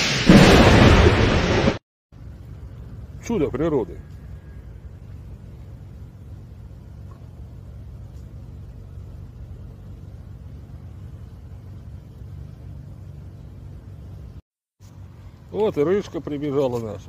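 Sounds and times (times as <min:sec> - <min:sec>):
low outdoor background rumble: 0:02.1 - 0:17.0.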